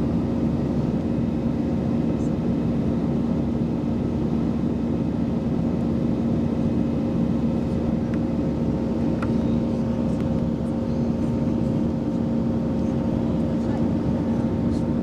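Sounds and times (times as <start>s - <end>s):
airliner cabin engine and airflow rush: 0.0s - 15.0s.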